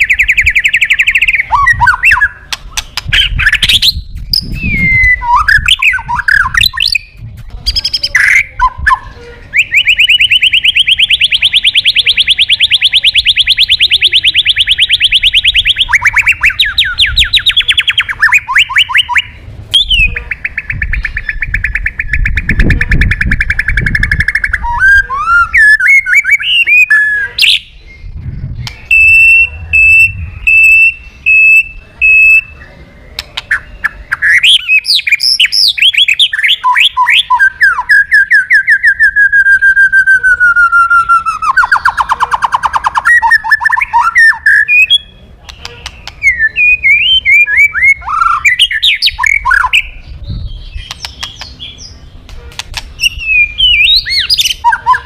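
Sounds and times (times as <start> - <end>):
bird singing trills and whistles: 0.0 - 55.0.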